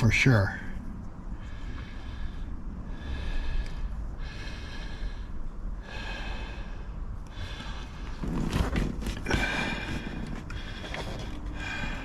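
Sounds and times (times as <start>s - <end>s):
man breathing heavily through nose: 0.7s - 12.0s.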